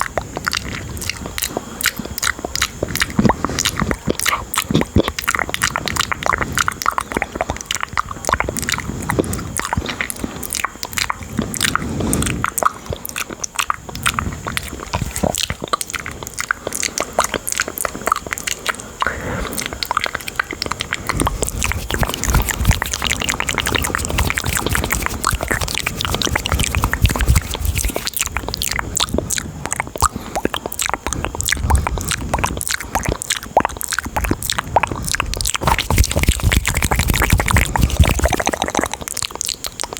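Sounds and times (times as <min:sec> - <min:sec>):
mouth clicks and pops: 0:00.0 - 0:39.9.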